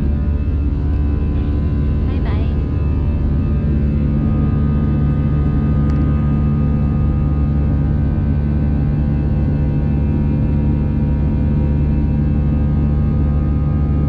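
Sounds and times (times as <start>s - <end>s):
jet engine cabin drone: 0.0s - 14.0s.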